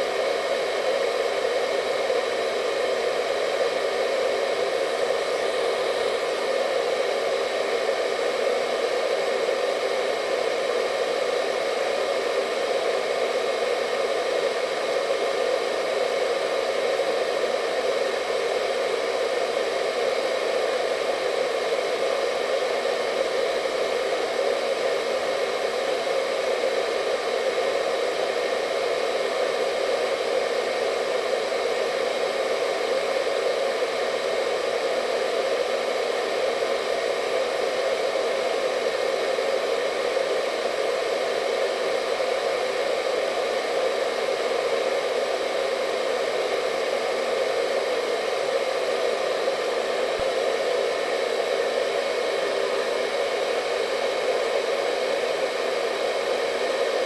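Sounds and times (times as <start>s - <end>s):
faint high whine: 0.0s - 57.0s
hair dryer blowing air: 0.0s - 57.0s.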